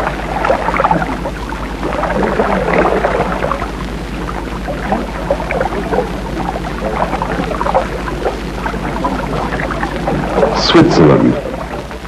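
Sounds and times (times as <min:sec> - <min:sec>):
constant low hum: 0:00.0 - 0:12.0
water splashing and churning: 0:00.0 - 0:12.0.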